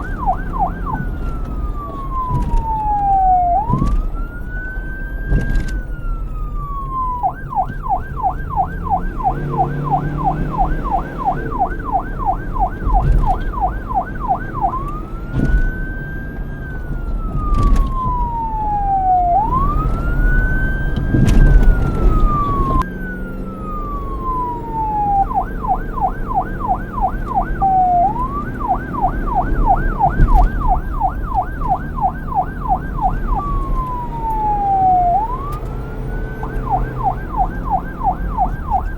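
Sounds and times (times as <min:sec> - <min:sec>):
police siren wail and yelp: 0:00.0 - 0:38.9.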